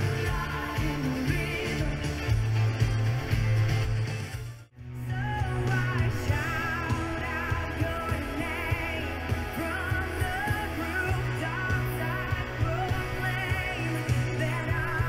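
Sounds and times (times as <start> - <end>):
pop-rock music over speakers: 0.0 - 15.0.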